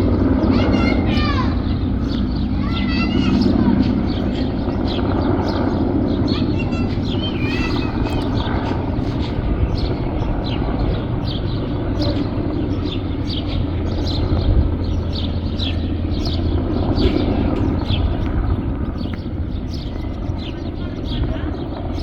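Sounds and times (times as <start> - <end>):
helicopter drone: 0.0 - 22.0
small birds chirping: 0.0 - 22.0.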